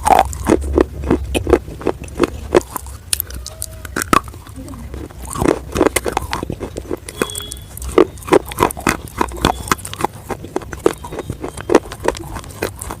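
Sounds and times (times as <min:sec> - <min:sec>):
crunchy food being chewed: 0:00.0 - 0:13.0.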